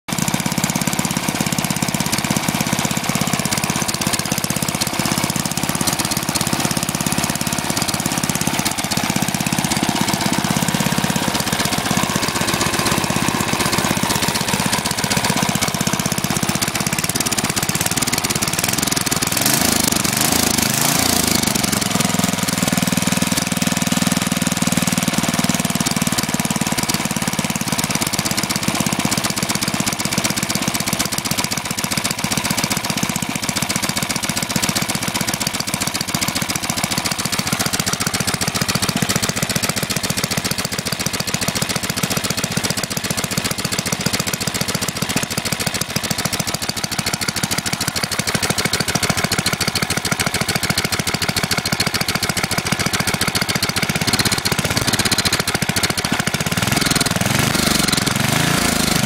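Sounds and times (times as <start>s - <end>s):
single-cylinder engine running: 0.1s - 59.0s.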